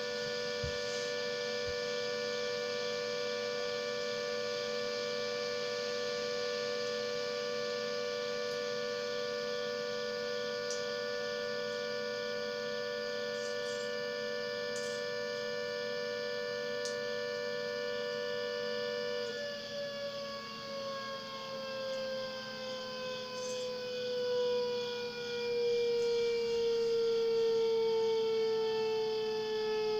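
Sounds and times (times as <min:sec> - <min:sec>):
siren two-note chord: 0:00.0 - 0:29.9.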